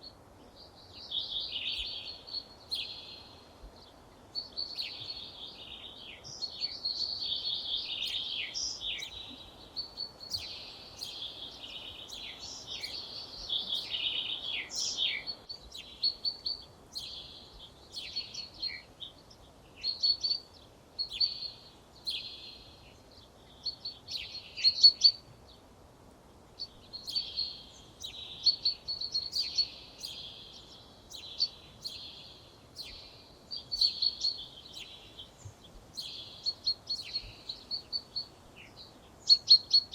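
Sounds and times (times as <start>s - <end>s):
faint background hiss: 0.0s - 39.9s
songbirds singing: 0.0s - 39.9s.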